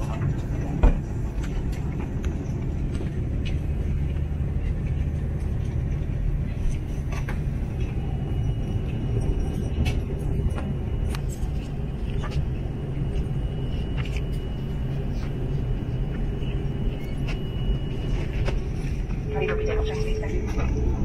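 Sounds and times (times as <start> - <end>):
aircraft engines idling hum: 0.0 - 21.0.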